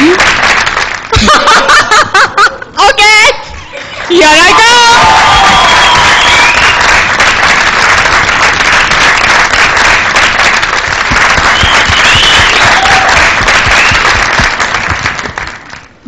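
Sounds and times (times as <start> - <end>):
audience applauding: 0.0 - 1.2, 3.8 - 16.0.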